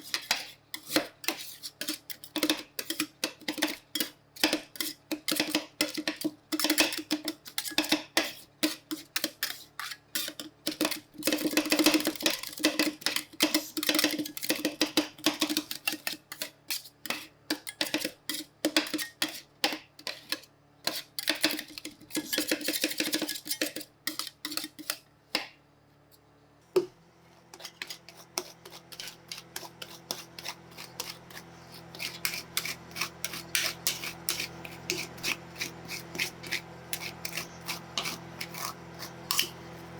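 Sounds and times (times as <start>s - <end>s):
metal spatulas chopping on steel: 0.0s - 25.5s, 27.5s - 39.8s.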